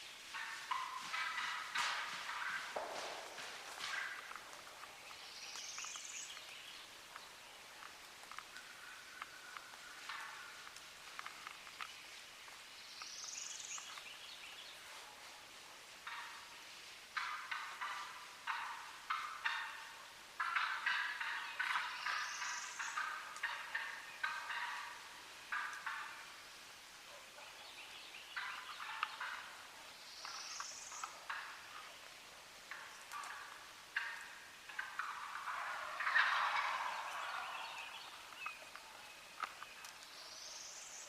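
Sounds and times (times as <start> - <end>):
turkeys gobbling: 0.3 - 5.2, 5.8 - 11.9, 15.0 - 27.7, 28.3 - 40.2.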